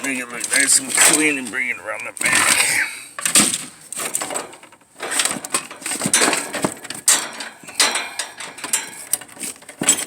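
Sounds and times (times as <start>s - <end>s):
clicks rattles and scrapes of wiring work: 0.0s - 10.0s.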